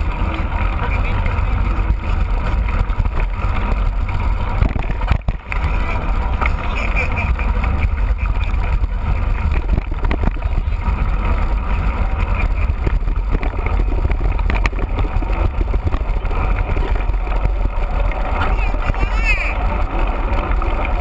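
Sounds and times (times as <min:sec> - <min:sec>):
bike rattling on trail: 0:00.0 - 0:21.0
wind buffeting microphone: 0:00.0 - 0:21.0.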